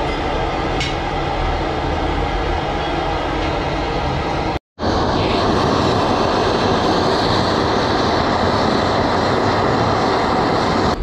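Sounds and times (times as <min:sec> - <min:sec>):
blowtorch flame hissing: 0:00.0 - 0:11.0.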